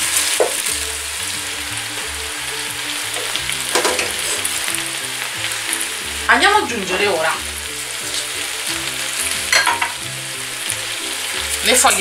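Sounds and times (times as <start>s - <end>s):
cabbage sizzling in oil: 0.0s - 12.0s.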